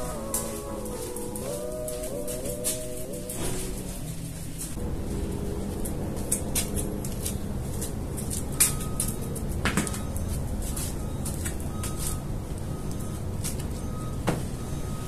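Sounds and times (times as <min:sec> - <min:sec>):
steady low rumble: 0:00.0 - 0:14.1.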